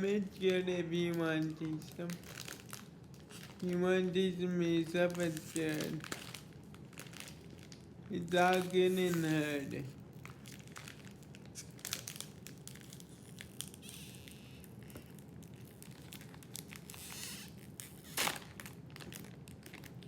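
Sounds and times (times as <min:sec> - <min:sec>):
crunchy snacks crackling: 0:00.0 - 0:04.0, 0:04.8 - 0:20.0
snack bag crinkling: 0:00.2 - 0:03.9, 0:04.8 - 0:20.0.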